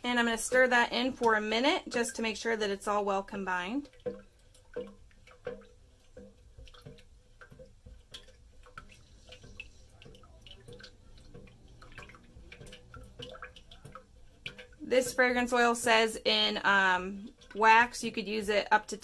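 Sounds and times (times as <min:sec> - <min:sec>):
liquid wax sloshing: 0:00.0 - 0:19.0.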